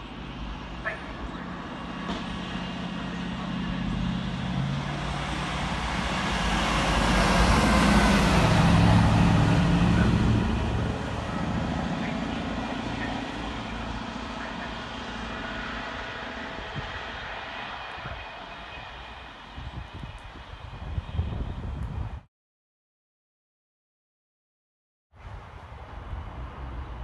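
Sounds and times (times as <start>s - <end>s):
diesel machine engine passing: 0.0s - 22.1s.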